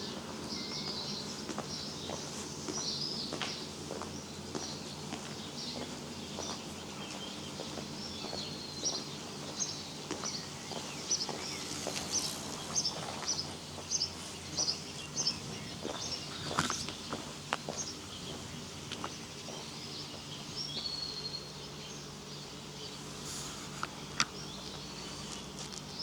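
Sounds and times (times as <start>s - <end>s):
songbird chirping: 0.0s - 26.0s
steady background noise: 0.0s - 26.0s.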